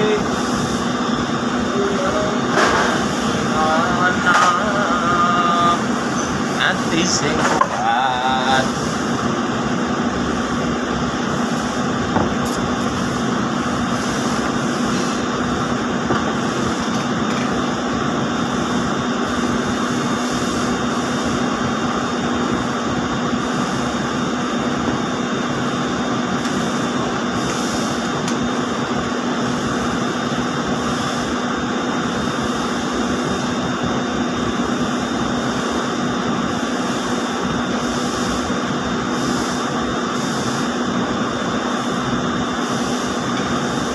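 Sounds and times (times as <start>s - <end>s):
spinning mill machinery drone: 0.0s - 43.9s.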